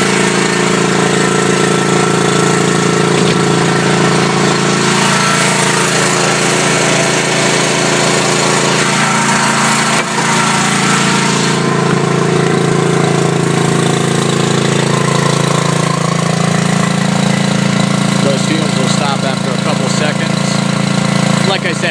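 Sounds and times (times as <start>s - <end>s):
generator engine running: 0.0s - 21.9s.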